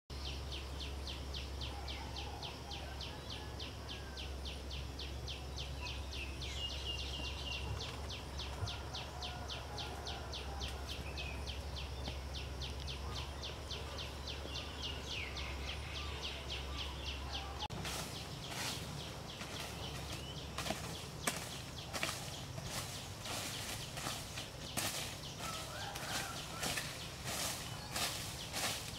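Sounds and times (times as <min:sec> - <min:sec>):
bird calls: 0:00.2 - 0:28.9
rustle: 0:00.2 - 0:28.9.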